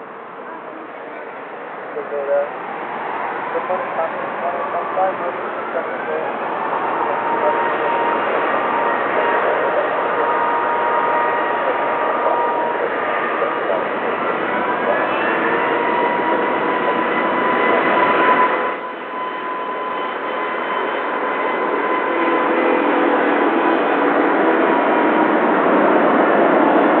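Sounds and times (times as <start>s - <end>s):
jet engines roaring with whine: 0.0s - 27.0s.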